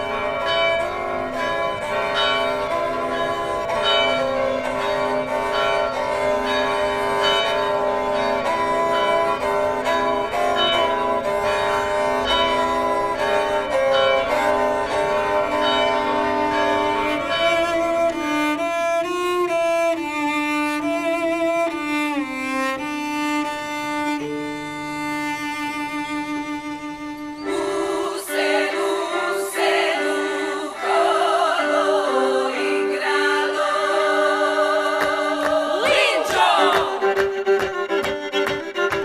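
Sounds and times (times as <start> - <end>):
bowed string instrument melody: 0.0 - 39.0.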